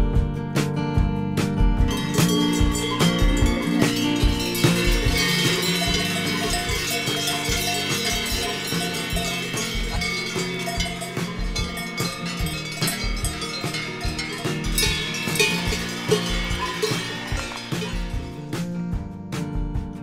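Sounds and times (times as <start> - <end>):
background music: 0.0 - 20.0
bell-like clanking: 1.9 - 18.6.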